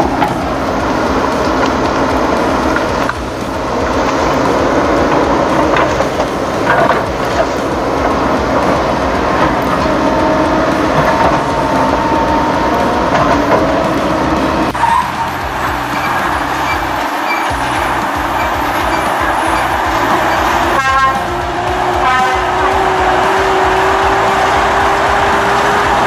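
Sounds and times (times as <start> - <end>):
heavy machine engine noise: 0.0 - 26.0.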